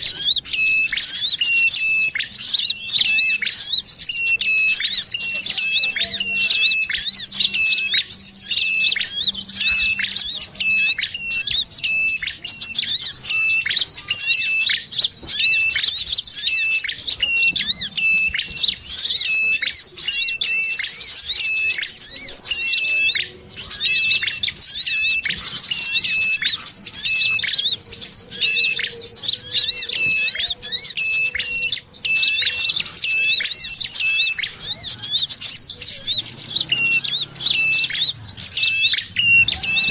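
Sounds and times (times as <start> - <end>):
high bird chattering: 0.0 - 39.9
sunbird calls: 0.0 - 39.9
tailorbird calls: 0.0 - 39.9.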